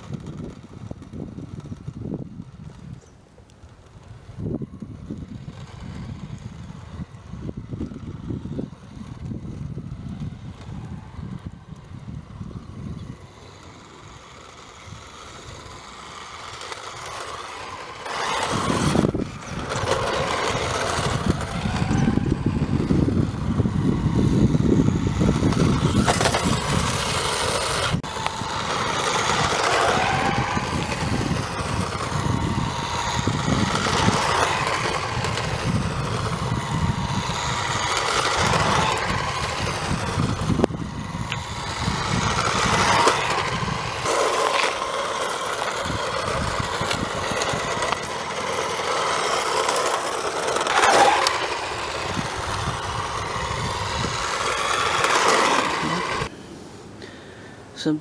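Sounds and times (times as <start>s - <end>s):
toy car electric motor whine: 0.0s - 56.3s
wheels rolling over rough asphalt: 0.0s - 56.4s.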